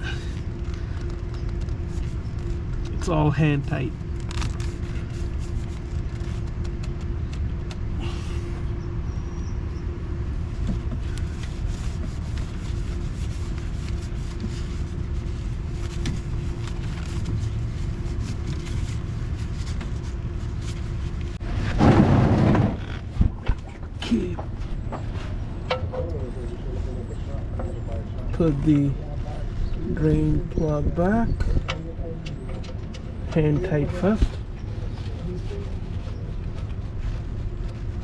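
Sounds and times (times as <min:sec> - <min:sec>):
low rumble with hum: 0:00.0 - 0:38.0.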